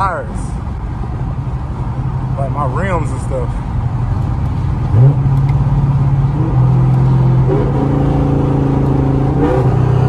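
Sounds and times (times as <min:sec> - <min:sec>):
car engine and exhaust drone: 0:00.0 - 0:10.0.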